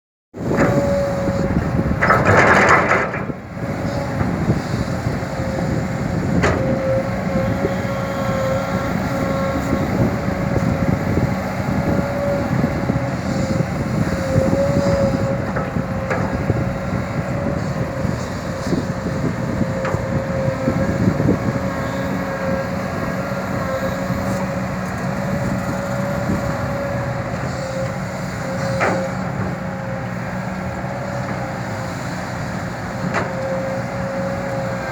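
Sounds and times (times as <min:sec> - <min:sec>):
excavator engine and hydraulics: 0:00.4 - 0:34.9.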